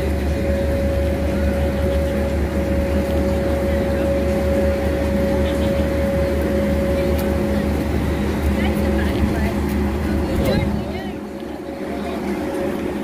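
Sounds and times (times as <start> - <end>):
mechanical drone with whine: 0.0 - 13.0
wind rumble on microphone: 0.0 - 13.0.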